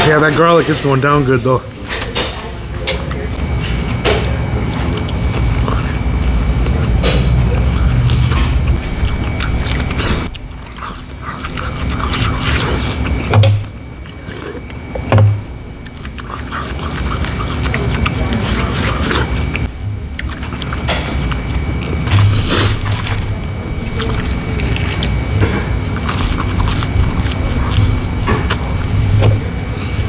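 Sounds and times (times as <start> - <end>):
indistinct voices: 0.0 - 30.0
restaurant music: 0.0 - 30.0.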